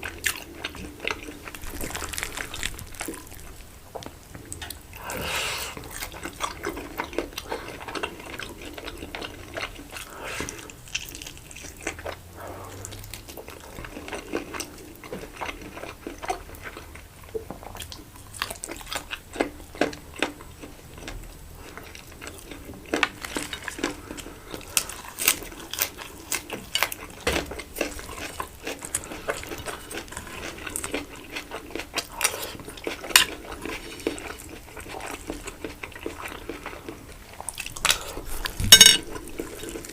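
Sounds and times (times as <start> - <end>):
biting and chewing food: 0.0 - 39.9.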